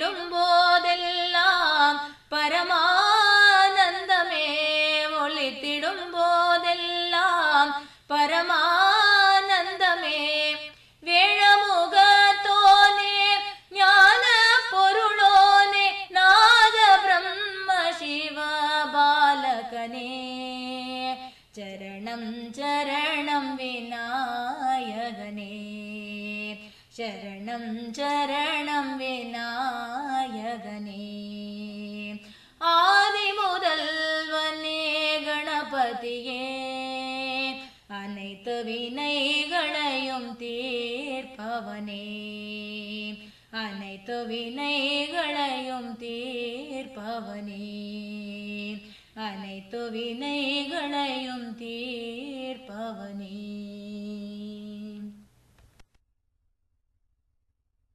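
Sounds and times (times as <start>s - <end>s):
woman singing unaccompanied: 0.0s - 55.3s.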